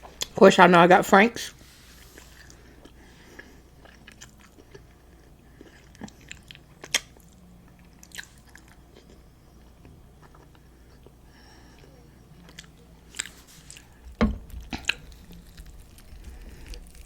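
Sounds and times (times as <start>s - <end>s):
quiet chewing: 1.9s - 17.0s.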